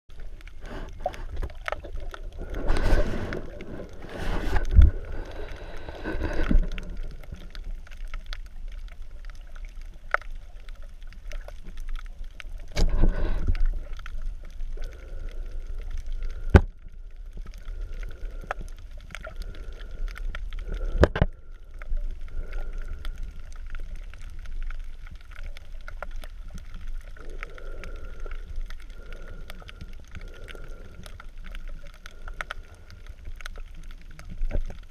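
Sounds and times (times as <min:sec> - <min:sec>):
muffled underwater water wash: 0:00.1 - 0:34.9
water churning: 0:00.1 - 0:34.9.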